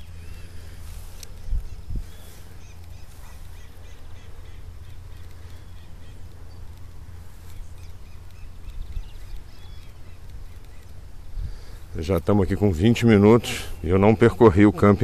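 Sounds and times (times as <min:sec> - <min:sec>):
birds calling: 0:00.0 - 0:15.0
low steady rumble: 0:00.0 - 0:15.0.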